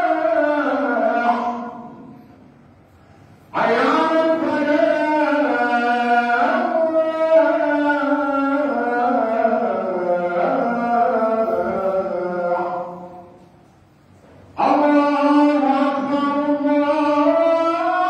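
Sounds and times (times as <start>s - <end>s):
man chanting call to prayer: 0.0s - 18.0s.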